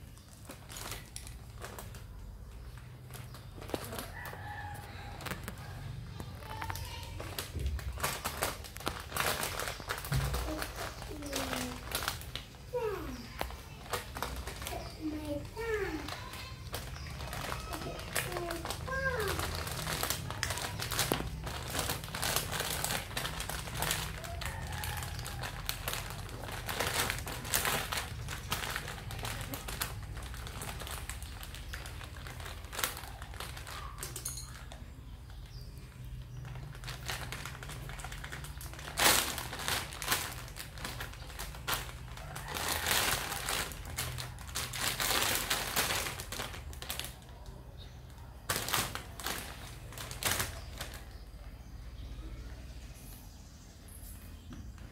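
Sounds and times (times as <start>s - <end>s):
plastic bag crinkling: 0.0s - 51.5s.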